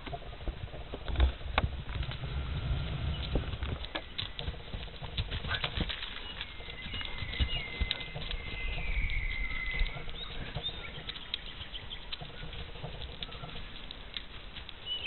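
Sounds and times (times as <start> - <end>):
hoofbeats cantering on sand: 0.0 - 15.0.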